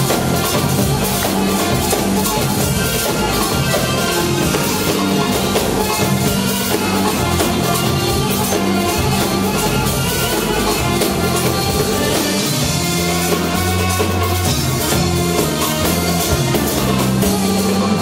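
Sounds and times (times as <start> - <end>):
live dance music band: 0.0 - 18.0.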